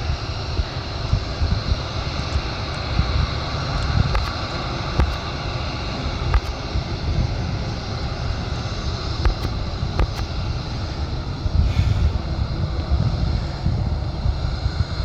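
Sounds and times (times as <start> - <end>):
faint steady whine: 0.0 - 15.0
jet engines roaring: 0.0 - 15.0
wind buffeting microphone: 0.0 - 15.0.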